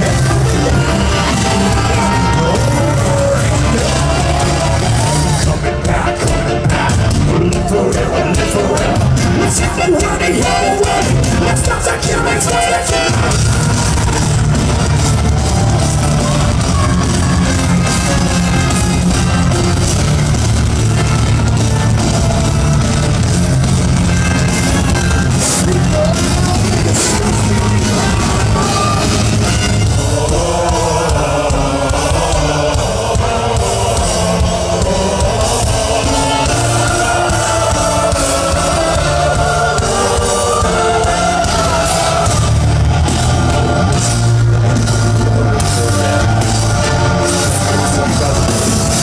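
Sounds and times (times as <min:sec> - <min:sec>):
heavy metal band playing live: 0:00.0 - 0:49.0.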